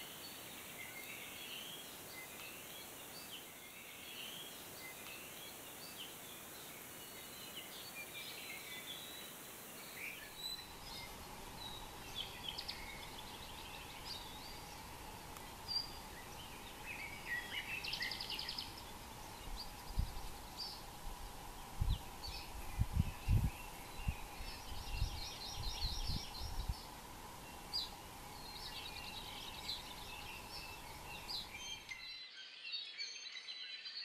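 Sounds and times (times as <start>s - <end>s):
birds chirping: 0.0s - 32.3s.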